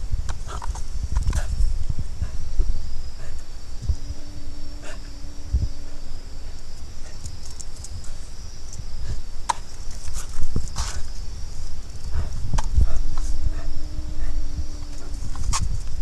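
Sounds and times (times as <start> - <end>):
crickets trilling: 0.0 - 16.0
low thumps and rumble: 0.0 - 16.0.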